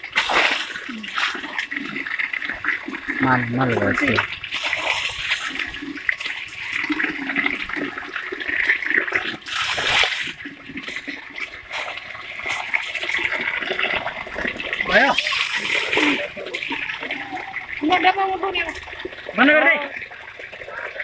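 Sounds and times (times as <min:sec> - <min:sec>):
water pouring and splashing: 0:00.0 - 0:21.0.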